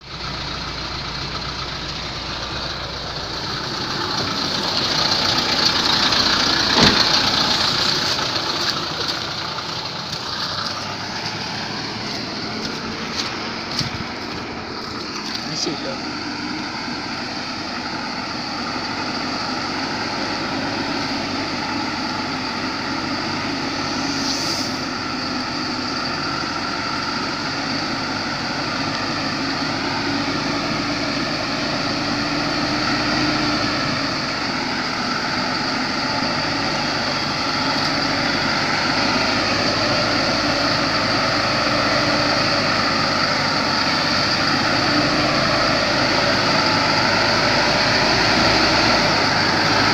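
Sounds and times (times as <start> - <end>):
road noise: 0.0 - 49.9
vehicle engine running: 0.0 - 49.9.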